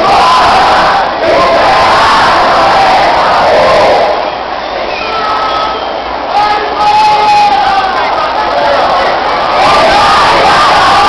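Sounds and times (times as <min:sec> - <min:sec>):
crowd shouting and chattering: 0:00.0 - 0:11.0.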